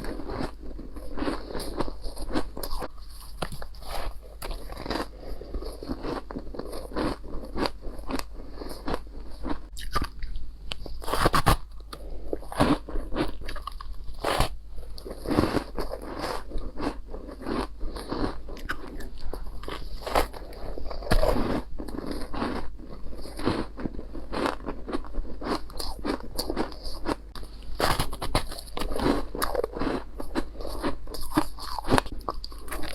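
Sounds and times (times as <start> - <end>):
biting and crunching ice: 0.0 - 32.9.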